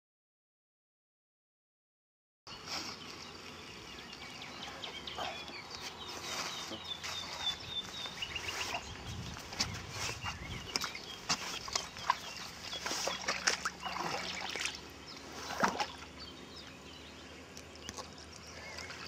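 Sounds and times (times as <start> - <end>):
birds chirping and trilling: 2.5 - 19.0.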